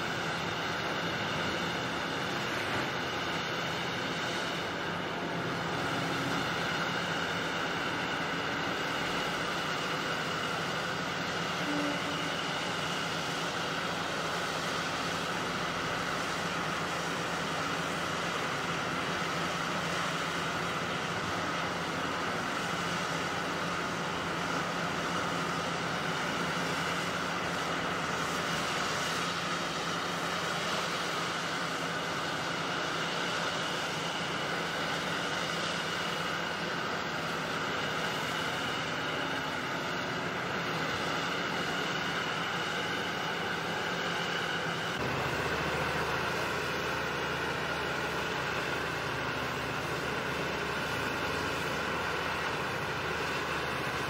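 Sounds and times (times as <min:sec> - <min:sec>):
excavator diesel engine drone: 0:00.0 - 0:54.0
hydraulic whine: 0:00.0 - 0:54.0.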